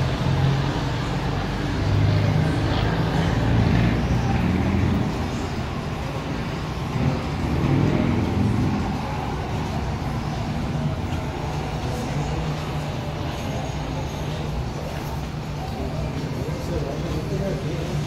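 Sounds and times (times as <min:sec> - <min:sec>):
station noise: 0:00.0 - 0:18.0.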